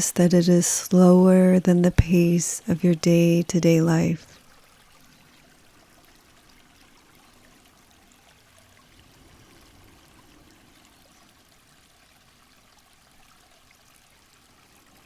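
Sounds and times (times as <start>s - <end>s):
faint rushing water: 0.0s - 15.0s.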